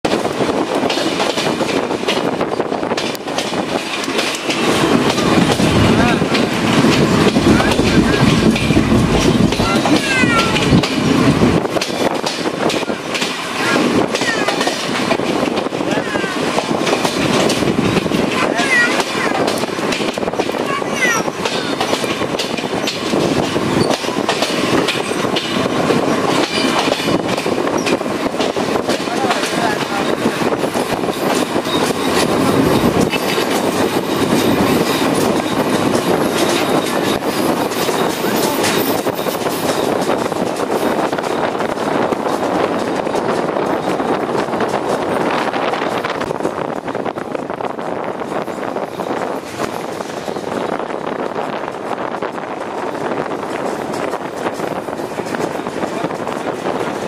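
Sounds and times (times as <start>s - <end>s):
train wheels rumbling on track: 0.0s - 57.0s
wheels clacking over rail joints: 0.0s - 57.0s.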